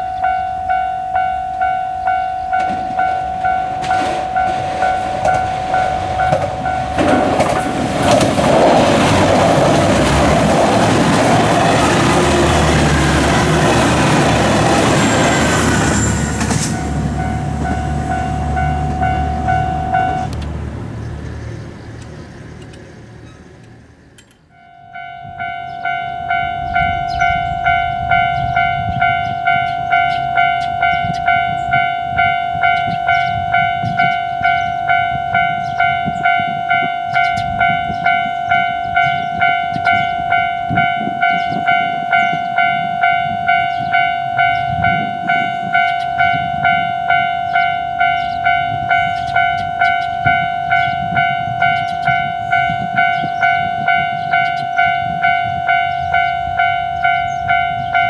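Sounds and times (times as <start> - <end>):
level crossing warning bell ringing: 0.0 - 23.6, 24.5 - 58.0.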